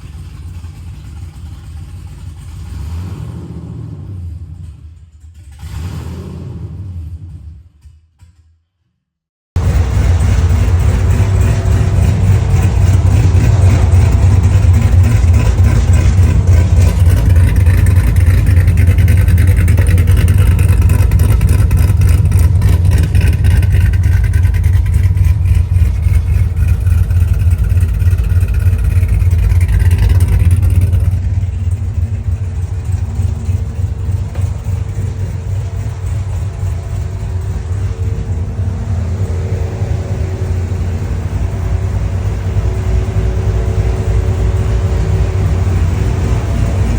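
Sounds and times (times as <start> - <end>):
pickup engine rumbling: 0.0 - 7.9, 9.6 - 46.9.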